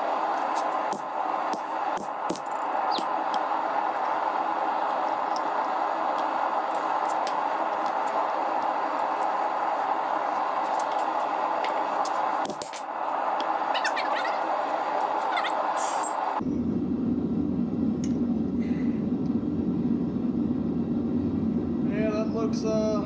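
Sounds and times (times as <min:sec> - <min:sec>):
gas burner roaring: 0:00.0 - 0:23.0.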